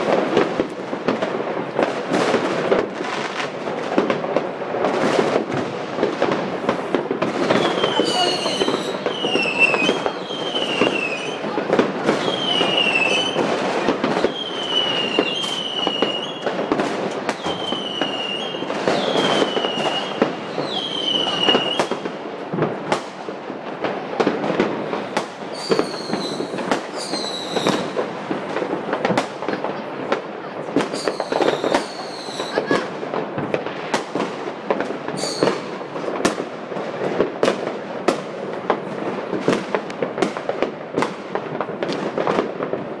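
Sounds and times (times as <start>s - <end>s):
firecrackers banging and crackling: 0.0s - 43.0s
whistling fireworks: 0.0s - 43.0s.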